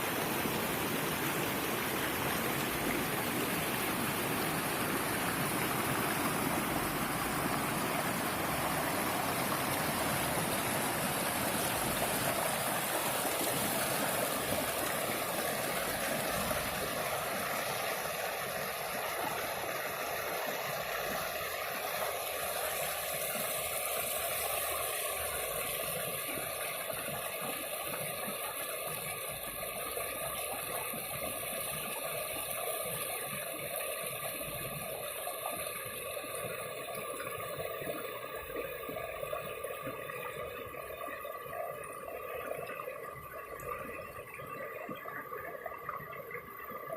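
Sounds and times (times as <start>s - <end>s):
river flowing: 0.0s - 46.9s.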